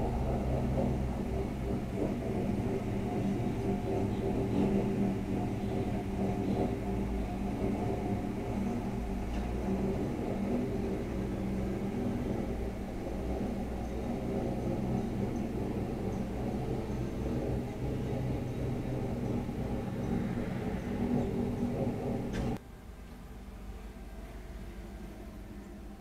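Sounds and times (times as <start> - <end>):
car engine idling: 0.0 - 22.6.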